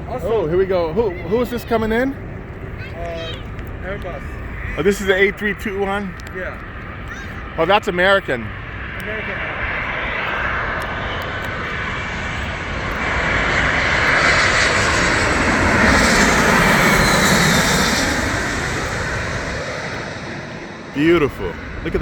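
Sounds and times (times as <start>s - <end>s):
faint falling jet whine: 0.0s - 22.0s
jetliner passing low: 0.0s - 22.0s.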